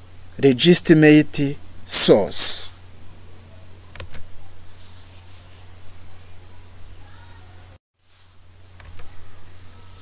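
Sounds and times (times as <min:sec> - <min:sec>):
low mains hum: 0:00.0 - 0:10.0.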